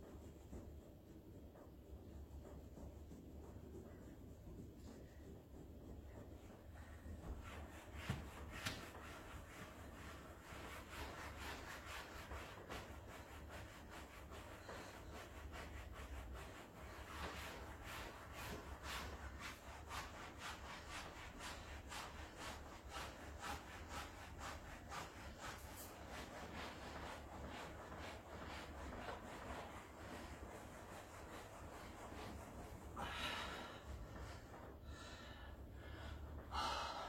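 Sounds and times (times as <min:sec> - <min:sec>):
short rubbing strokes: 0:00.0 - 0:34.8.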